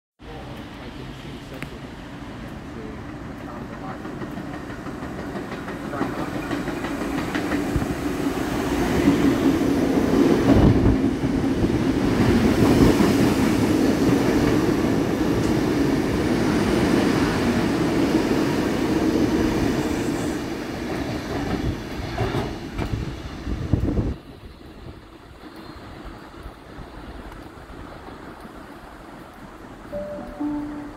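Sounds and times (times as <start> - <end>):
train wheels rumbling on rails: 0.3 - 30.0.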